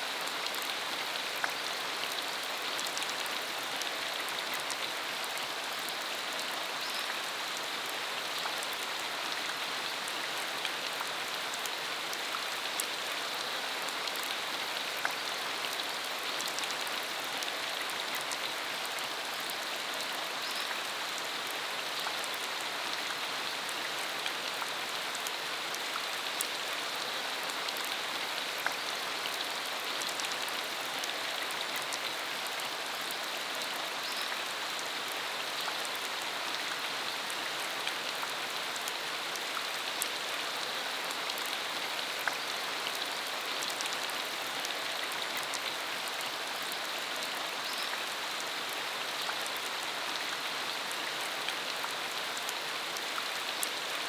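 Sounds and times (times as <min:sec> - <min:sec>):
rain on dirt road: 0:00.0 - 0:54.0.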